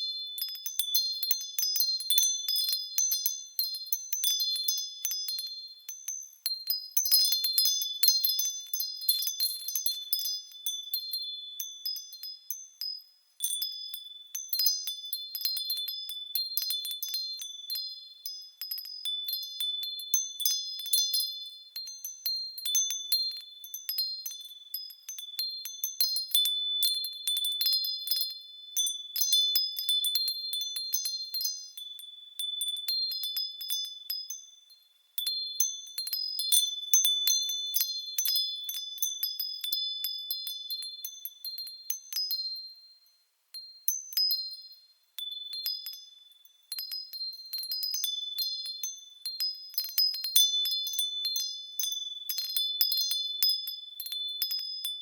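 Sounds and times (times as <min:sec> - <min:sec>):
wind chimes tinkling: 0:00.0 - 0:55.0.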